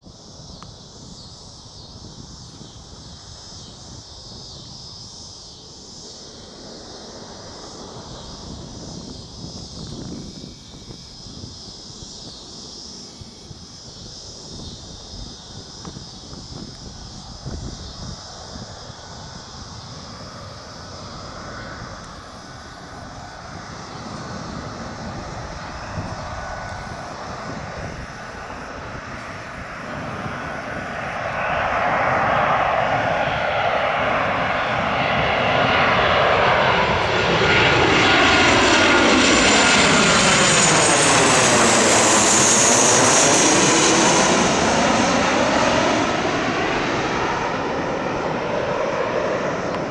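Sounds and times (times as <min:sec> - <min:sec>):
jet airliner passing overhead: 0:00.0 - 0:49.9.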